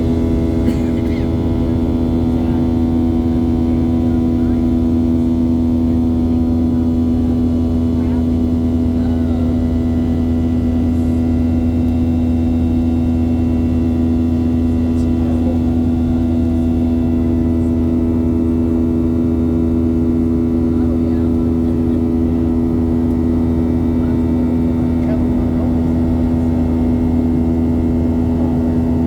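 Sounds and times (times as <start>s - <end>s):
aircraft engines droning in cabin: 0.0s - 29.0s.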